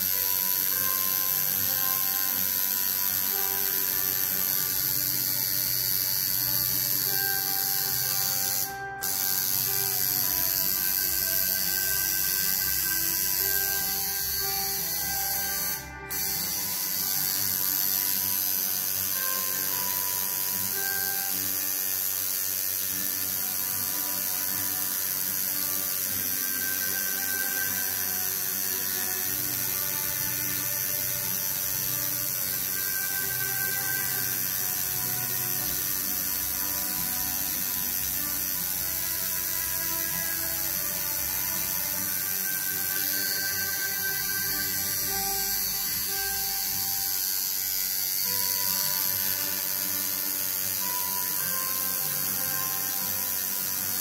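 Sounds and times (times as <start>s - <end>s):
tattoo machine buzzing: 0.0s - 54.0s.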